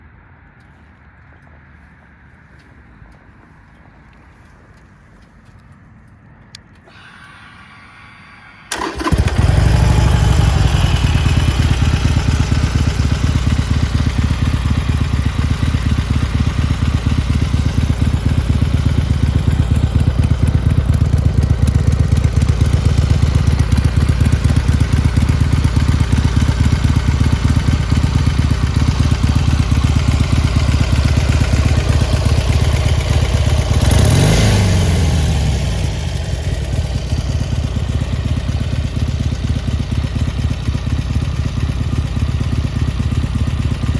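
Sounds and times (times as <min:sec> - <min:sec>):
motorcycle engine idling: 0:08.7 - 0:43.9.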